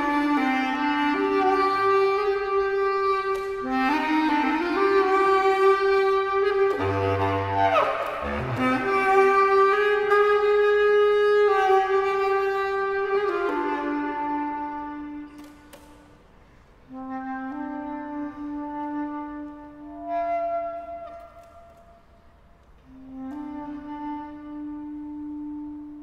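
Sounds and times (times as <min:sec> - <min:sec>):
bass clarinet long notes: 0:00.0 - 0:15.5, 0:16.9 - 0:22.2, 0:22.8 - 0:26.0.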